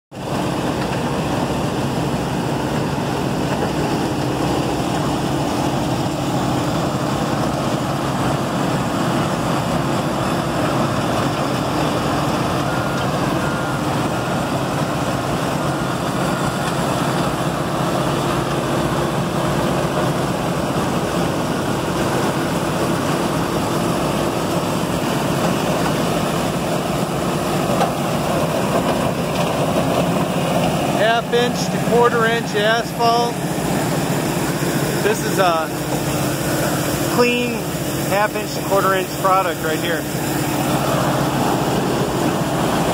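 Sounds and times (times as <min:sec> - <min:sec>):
crushing plant machinery running: 0:00.2 - 0:42.9.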